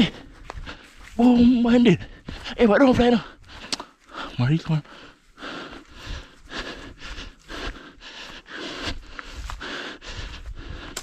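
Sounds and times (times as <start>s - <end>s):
man breathing hard: 0.0s - 1.2s, 2.0s - 2.6s, 3.2s - 11.0s.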